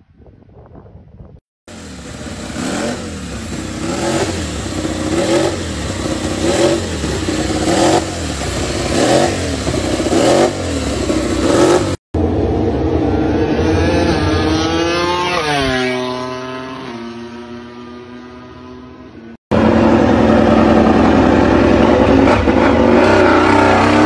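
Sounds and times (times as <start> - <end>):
motorcycle engine revving: 1.7 - 24.0
motorcycle passing at speed: 1.7 - 24.0.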